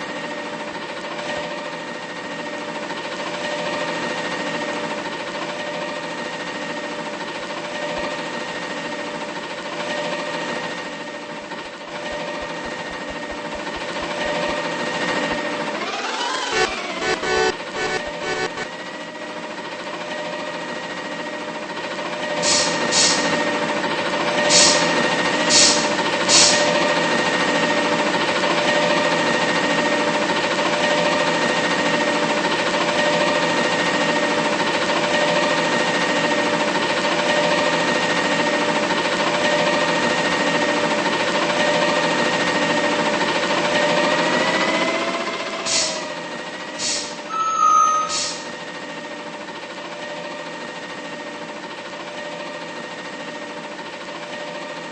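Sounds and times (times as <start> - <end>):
garbage truck mechanical whine: 0.0 - 54.9.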